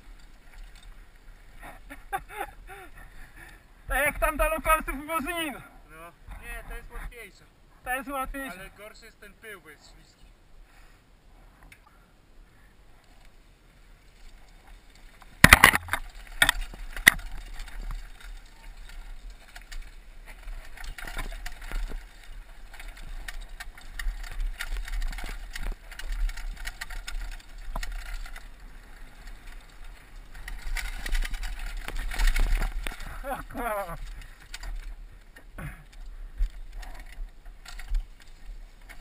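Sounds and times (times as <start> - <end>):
bike rattling and clicking: 0.0 - 5.6, 13.1 - 39.0
bike tyres on dirt: 0.0 - 39.0.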